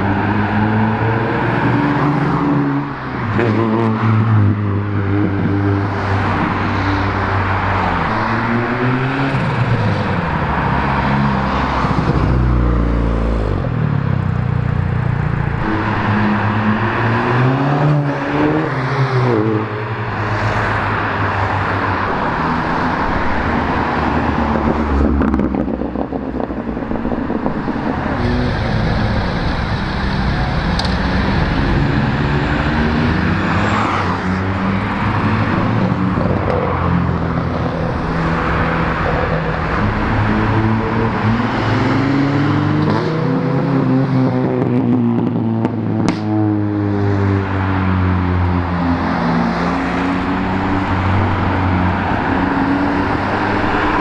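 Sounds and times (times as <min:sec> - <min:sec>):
car engines revving: 0:00.0 - 0:54.0
traffic noise: 0:00.0 - 0:54.0.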